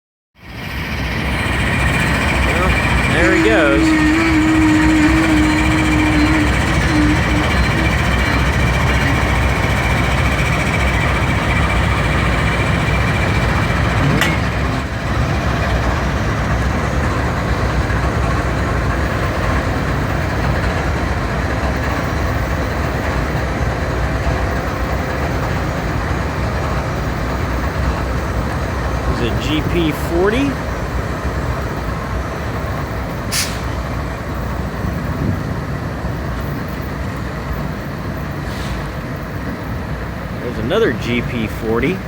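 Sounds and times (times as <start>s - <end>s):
diesel locomotives engine drone: 0.4s - 42.0s.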